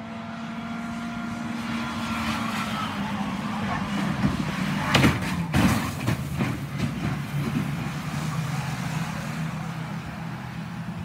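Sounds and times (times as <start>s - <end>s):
racing car engines droning: 0.0s - 11.0s.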